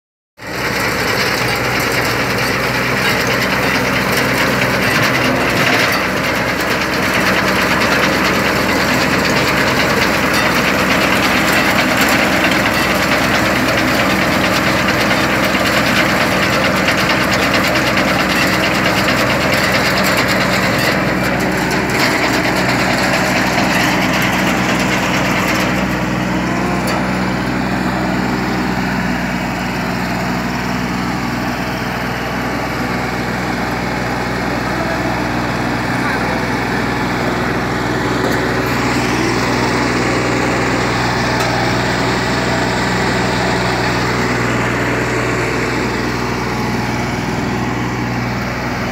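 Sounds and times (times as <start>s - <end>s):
harvester digging rattle: 0.4s - 48.9s
tractor engine running under load: 0.4s - 48.9s.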